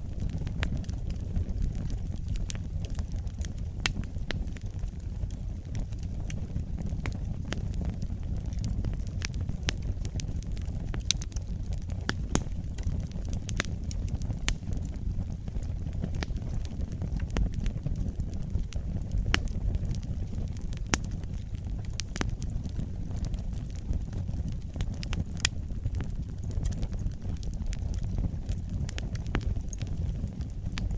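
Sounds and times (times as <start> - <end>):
fire crackles and pops: 0.0 - 30.9
fire rumbling in fireplace: 0.0 - 30.9.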